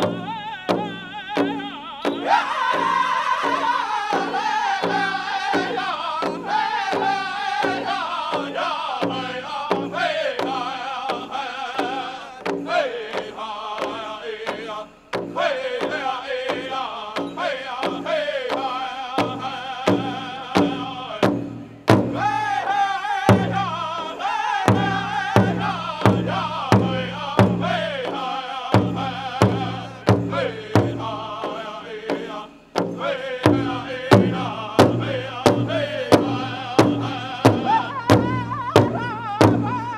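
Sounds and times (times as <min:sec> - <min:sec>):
large drum beat: 0:00.0 - 0:39.9
voices singing in unison: 0:00.0 - 0:39.9.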